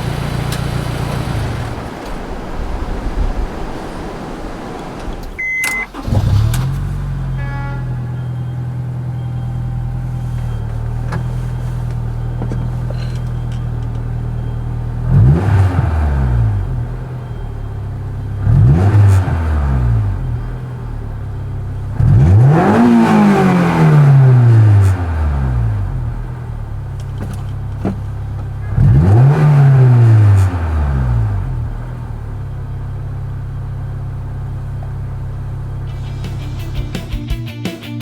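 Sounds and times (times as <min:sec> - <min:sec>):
car engine idling and revving: 0:00.0 - 0:37.2.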